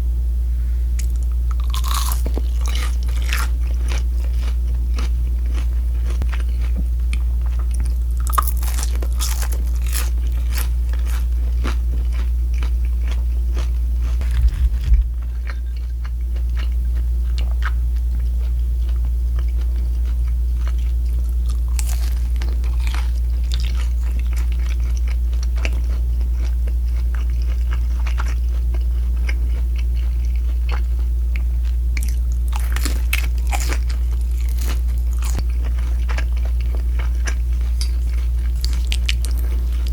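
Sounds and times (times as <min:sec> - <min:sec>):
low hum: 0:00.0 - 0:39.9
crunchy chewing: 0:01.0 - 0:39.9.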